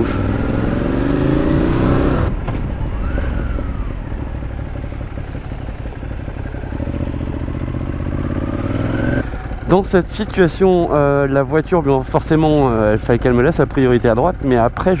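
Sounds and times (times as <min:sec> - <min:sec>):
motorcycle engine low throb: 0:00.0 - 0:15.0.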